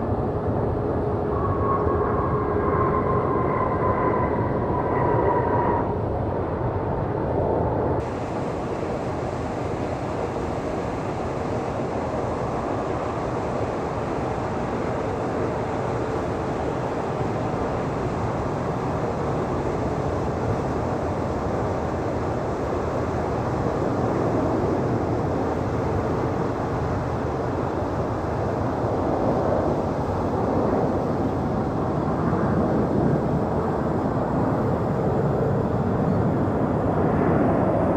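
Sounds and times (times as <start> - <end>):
jet airliner rumble with whine: 0.0 - 37.9
jet engine high whining: 0.0 - 37.9.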